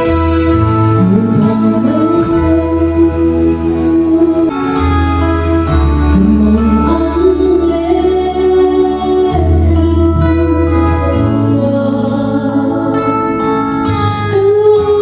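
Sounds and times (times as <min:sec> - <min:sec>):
girl singing into microphone: 0:00.0 - 0:15.0
worship song over sound system: 0:00.0 - 0:15.0.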